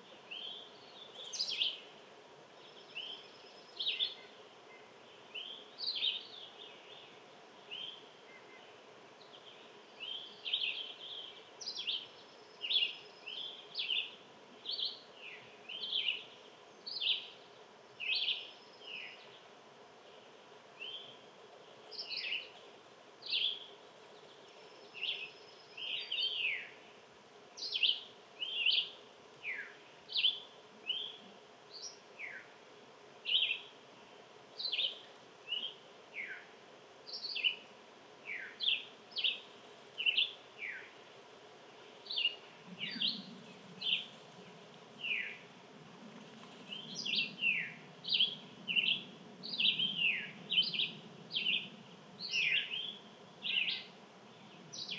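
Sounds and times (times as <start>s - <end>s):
faint steady hum: 0.0s - 54.9s
songbirds chirping: 0.0s - 54.9s.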